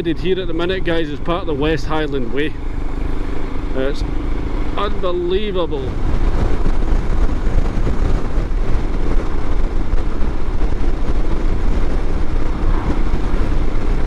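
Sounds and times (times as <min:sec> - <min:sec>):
motorcycle engine and road noise: 0:00.0 - 0:14.0
wind rushing over microphone: 0:00.0 - 0:14.0.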